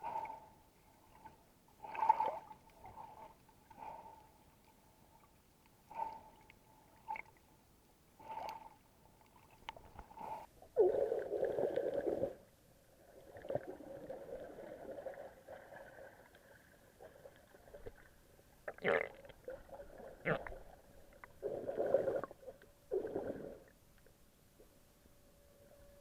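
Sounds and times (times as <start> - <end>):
water gurgling and sloshing: 0.0 - 24.7.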